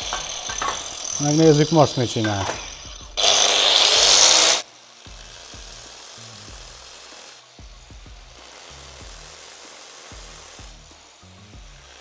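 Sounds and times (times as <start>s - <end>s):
angle grinder running: 0.0s - 12.0s.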